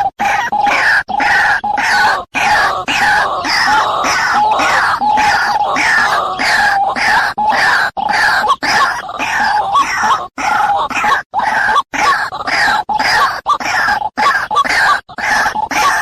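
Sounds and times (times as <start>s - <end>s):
bird harsh croaking calls: 0.0s - 16.0s.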